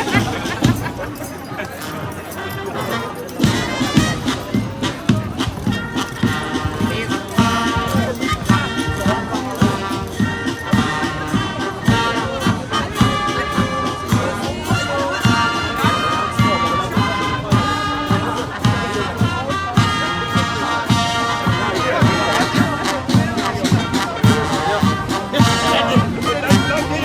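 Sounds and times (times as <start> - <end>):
steady drum beat: 0.0 - 1.2, 3.4 - 27.0
brass marching band: 0.0 - 27.0.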